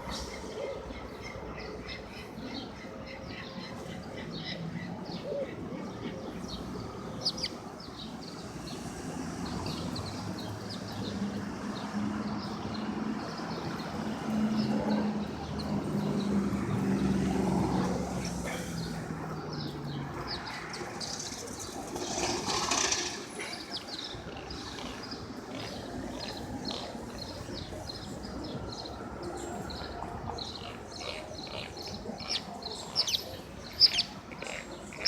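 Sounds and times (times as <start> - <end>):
city traffic: 0.0 - 35.0
small birds chirping: 0.1 - 35.0.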